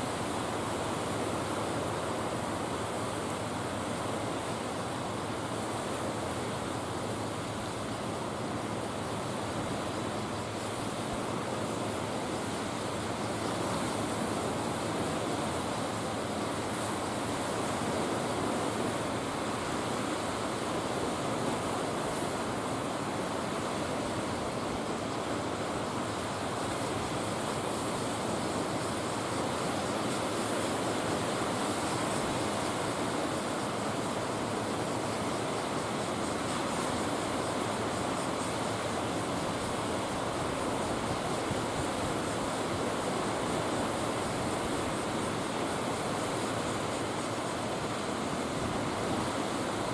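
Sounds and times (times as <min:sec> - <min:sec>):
sea water rushing: 0:00.0 - 0:49.9
wind: 0:00.0 - 0:49.9.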